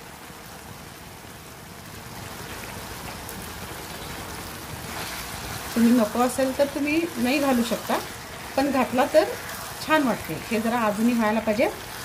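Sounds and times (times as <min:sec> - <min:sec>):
rice sizzling in a pan: 0:00.0 - 0:12.0.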